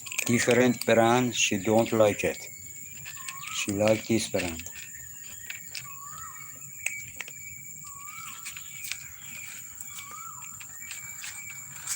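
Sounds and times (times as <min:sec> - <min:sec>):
high insect buzz: 0:00.0 - 0:11.9.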